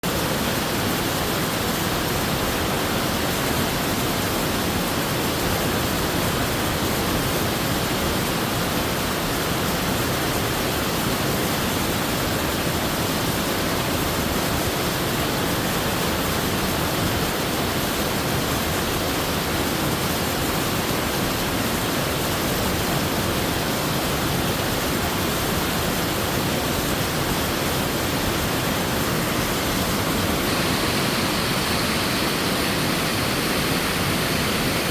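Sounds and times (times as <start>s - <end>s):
waterfall pouring: 0.0s - 34.9s.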